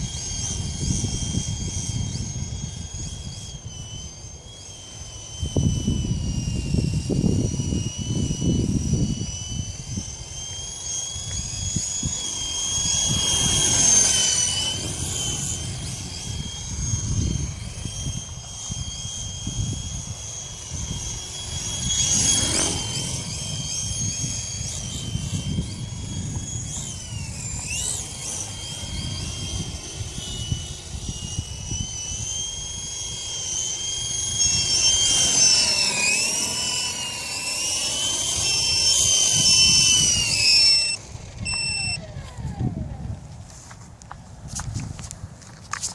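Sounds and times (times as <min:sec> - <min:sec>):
rc helicopter rotor whine: 0:00.0 - 0:45.9
wind buffeting microphone: 0:05.4 - 0:45.9.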